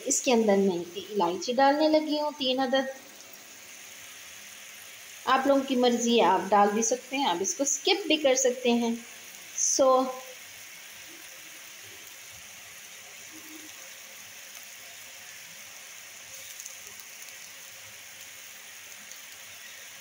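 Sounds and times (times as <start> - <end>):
syrup simmering hiss: 0.0 - 20.0.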